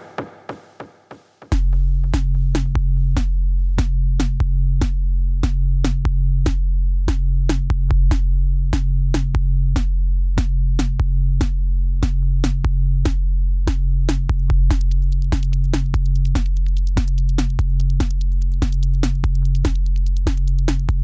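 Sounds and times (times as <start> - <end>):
drum machine beat: 0.0 - 21.0
low bass: 1.6 - 21.0.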